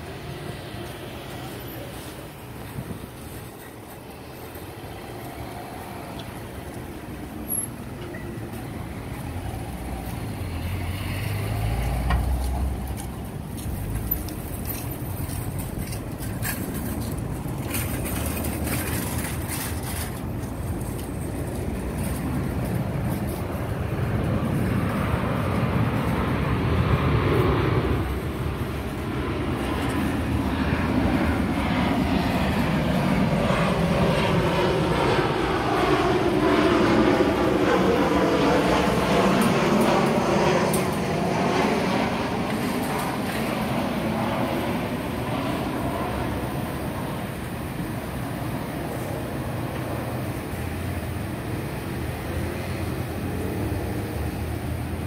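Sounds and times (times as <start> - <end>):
jet airliner rumble and whine: 0.0 - 55.0
road traffic rumble: 0.0 - 55.0.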